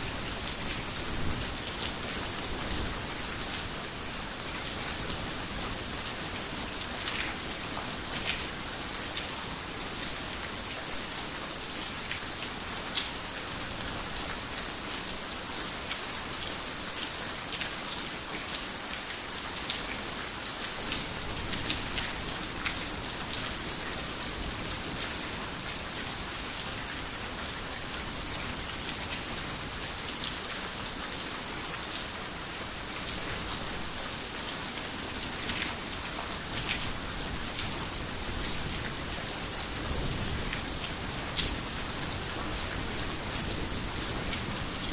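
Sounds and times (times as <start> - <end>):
heavy rain on a roof: 0.0 - 44.9.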